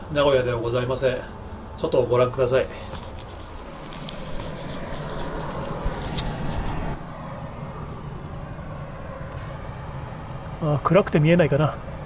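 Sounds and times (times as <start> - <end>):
city road traffic hum: 0.0 - 12.0.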